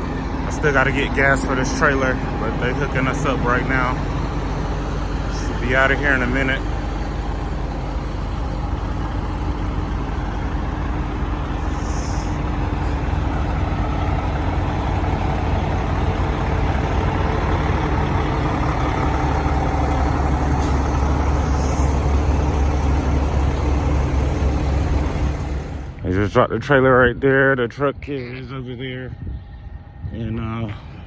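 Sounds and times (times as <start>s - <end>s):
diesel truck engine rumbling: 0.0s - 31.0s.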